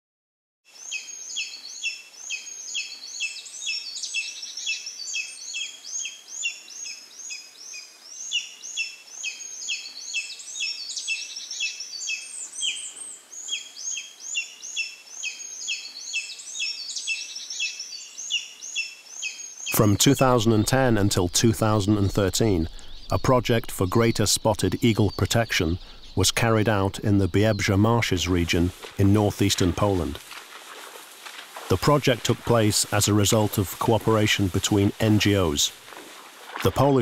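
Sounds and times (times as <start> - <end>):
birds calling: 0.8 - 37.0.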